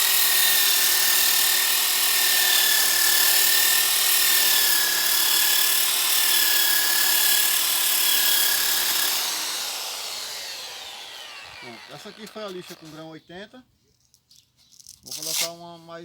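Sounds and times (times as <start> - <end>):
power sander on wood: 0.0 - 13.1.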